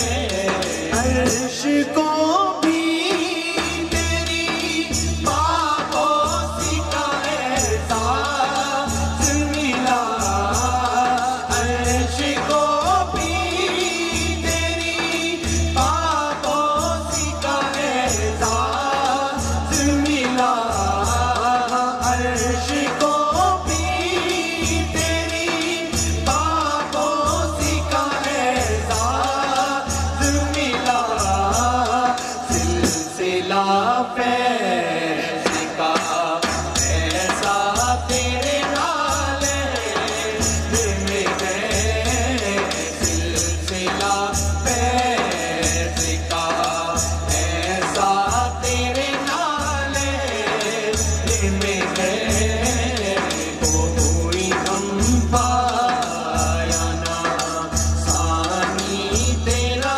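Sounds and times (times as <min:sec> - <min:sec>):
fast rattling percussion: 0:00.0 - 0:34.5, 0:35.3 - 0:59.9
men singing with chorus: 0:00.0 - 0:59.9
deep drum beat: 0:02.7 - 0:33.2, 0:35.5 - 0:59.9.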